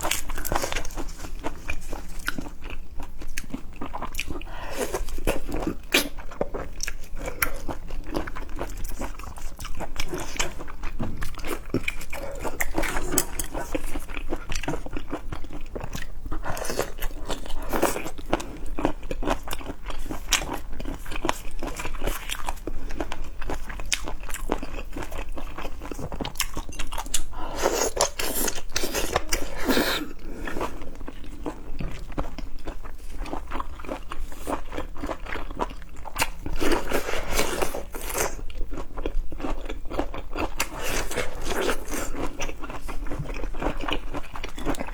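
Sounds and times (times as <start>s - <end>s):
chewing and crunching seafood: 0.0s - 44.9s.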